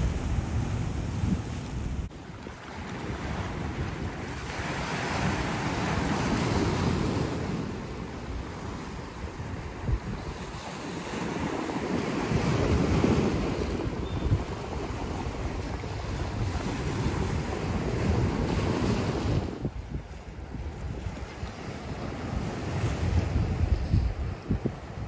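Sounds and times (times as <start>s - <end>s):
waves breaking over rocks: 0.0s - 25.0s
wind buffeting microphone: 0.0s - 25.0s.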